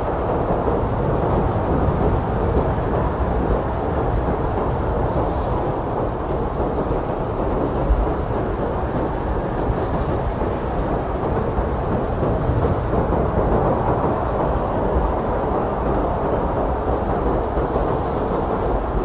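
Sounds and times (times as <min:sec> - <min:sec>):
blizzard wind blowing: 0:00.0 - 0:19.0.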